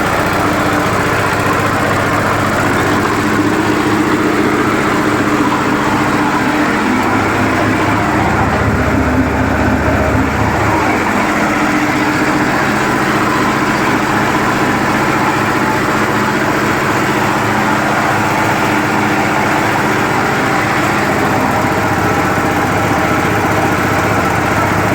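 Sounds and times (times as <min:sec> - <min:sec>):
air compressor pumping: 0:00.0 - 0:24.9
diesel engine running: 0:00.0 - 0:24.9.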